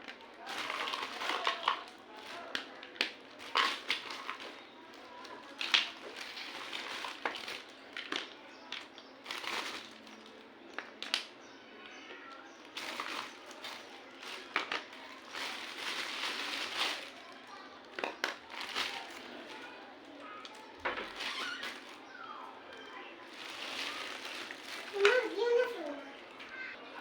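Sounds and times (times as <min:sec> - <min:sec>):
plastic wrap crinkling: 0:00.0 - 0:11.3, 0:12.2 - 0:26.8.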